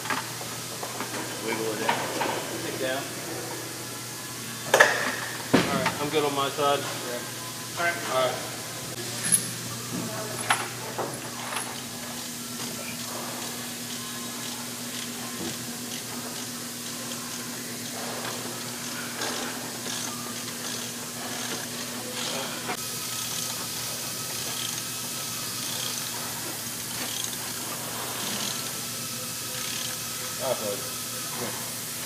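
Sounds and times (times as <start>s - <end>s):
hangar background rushing hum: 0.0s - 32.0s.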